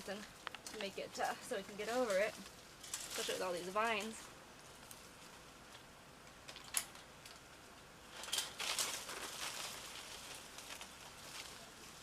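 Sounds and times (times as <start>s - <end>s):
rustling and crackling of brush: 0.0s - 12.0s.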